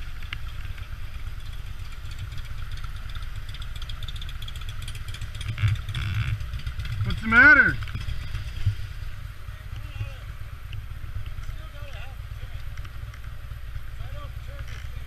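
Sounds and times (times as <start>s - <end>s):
motorcycle engine idling rumble: 0.0s - 15.0s.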